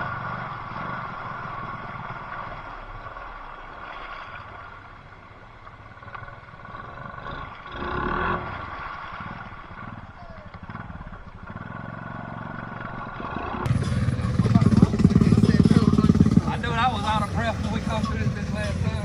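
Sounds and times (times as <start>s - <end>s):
off-road bike engine: 0.0s - 19.0s.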